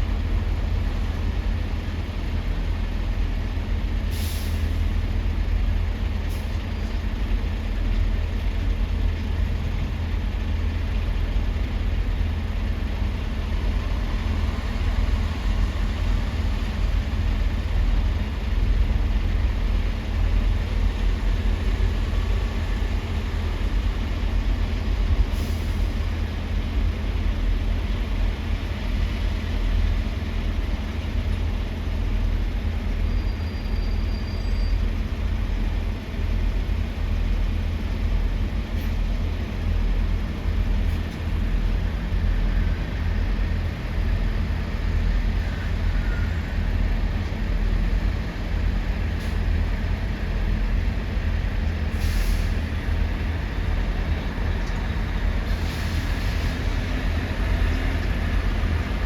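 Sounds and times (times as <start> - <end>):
heavy diesel engines rumbling: 0.0 - 59.0.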